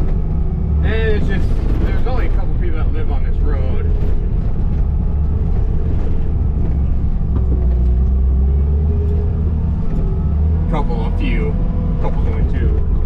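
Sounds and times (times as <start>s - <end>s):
skid steer engine running: 0.0s - 13.0s.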